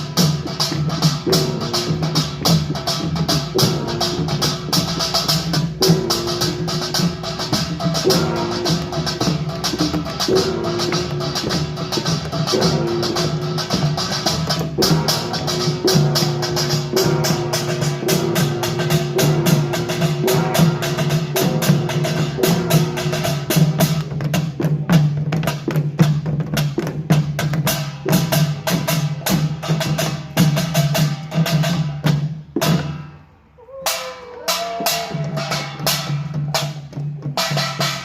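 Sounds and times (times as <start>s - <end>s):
gongs and drums clattering: 0.0s - 38.0s.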